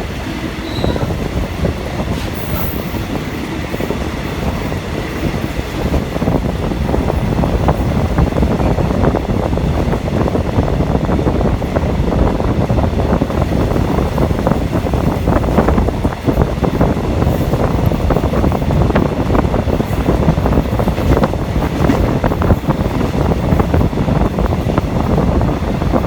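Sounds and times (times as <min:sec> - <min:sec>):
train rumbling and rattling: 0:00.0 - 0:26.0.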